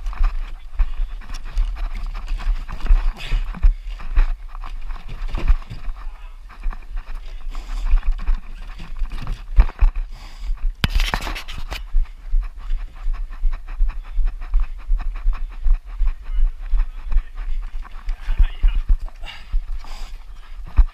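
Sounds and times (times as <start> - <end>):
heavy panting breaths: 0.0 - 20.9
microphone jostling: 0.0 - 20.9
running footfalls: 0.0 - 20.9.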